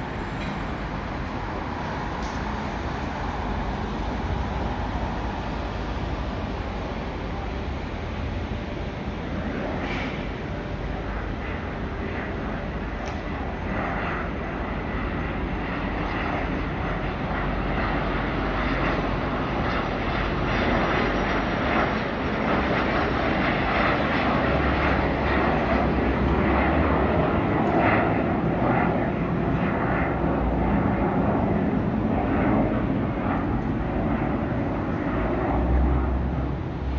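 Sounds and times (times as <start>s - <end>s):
jet engine rushing: 0.0s - 36.9s.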